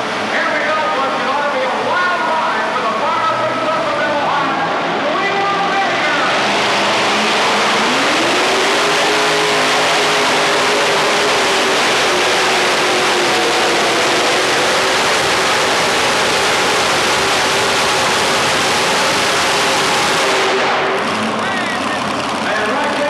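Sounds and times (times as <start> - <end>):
tractor engine howling under load: 3.0 - 23.0.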